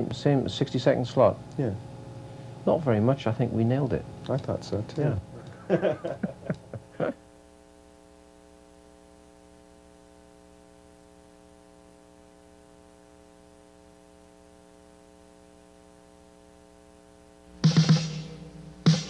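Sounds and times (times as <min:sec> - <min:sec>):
faint mains hum: 0:00.0 - 0:19.0.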